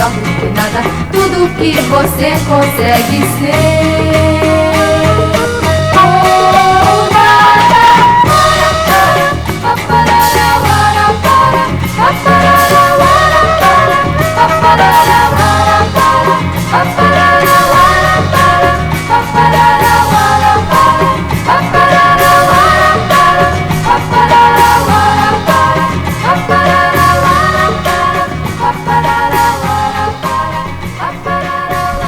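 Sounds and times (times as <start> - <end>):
popular music from vinyl record: 0.0 - 32.0.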